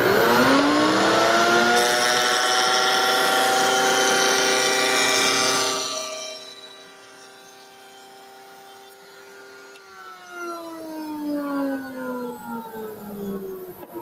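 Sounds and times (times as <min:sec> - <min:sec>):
router cutting plywood: 0:00.0 - 0:14.0
router whining: 0:00.0 - 0:14.0.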